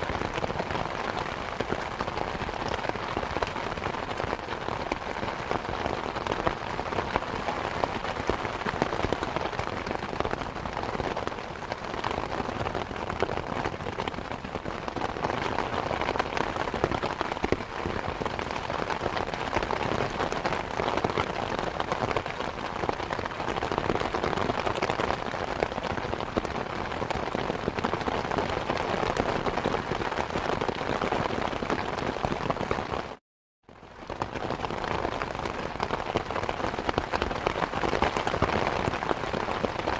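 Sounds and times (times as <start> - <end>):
steady rain falling: 0.0 - 33.2, 33.8 - 39.9.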